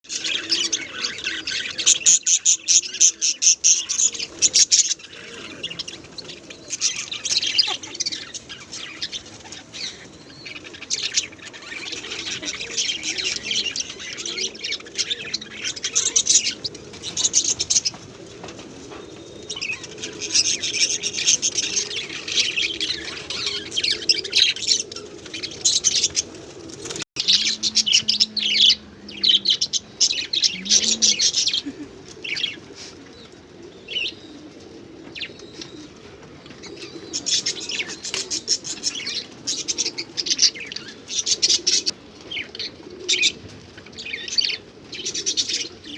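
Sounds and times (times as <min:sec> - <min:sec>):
small birds chirping: 0:00.0 - 0:45.9
low cooing: 0:00.1 - 0:45.9.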